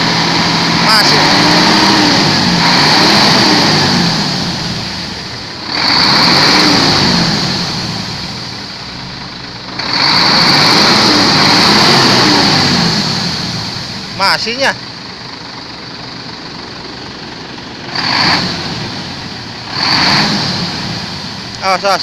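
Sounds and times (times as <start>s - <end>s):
diesel truck engine revving: 0.0s - 22.0s.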